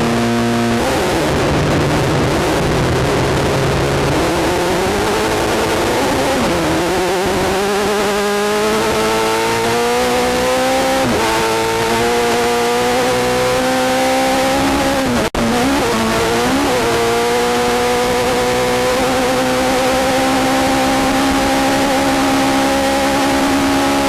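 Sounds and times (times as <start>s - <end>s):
race buggy engine at high revs: 0.0s - 24.0s
wind and terrain noise: 0.0s - 24.0s.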